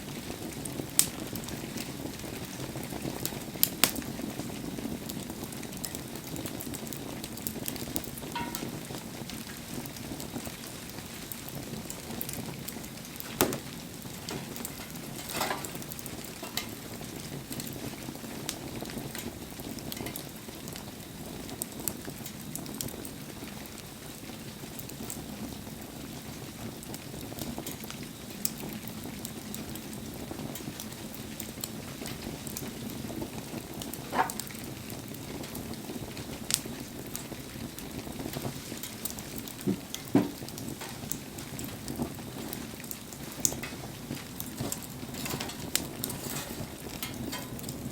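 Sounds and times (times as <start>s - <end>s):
burning wood popping: 0.0s - 47.9s
fire hissing and sizzling in rain: 0.0s - 47.9s.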